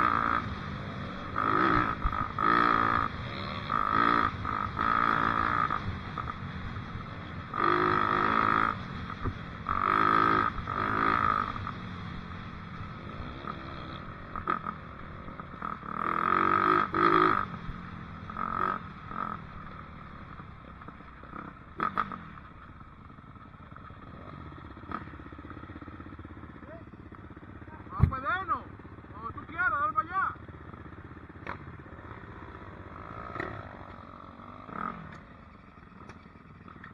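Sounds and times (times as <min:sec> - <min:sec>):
dirt bike engine revving: 0:00.0 - 0:22.5, 0:23.7 - 0:36.9.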